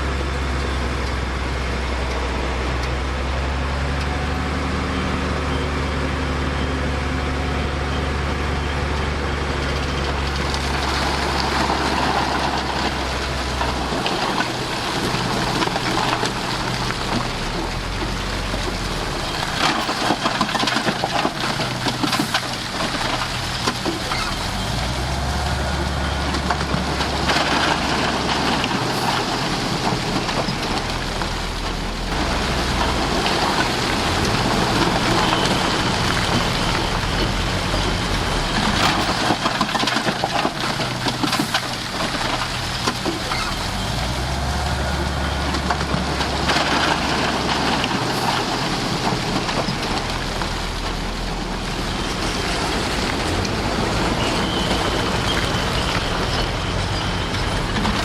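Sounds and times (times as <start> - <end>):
bulldozer diesel engine: 0.0 - 58.0
tracks rattling and clanking: 9.7 - 58.0.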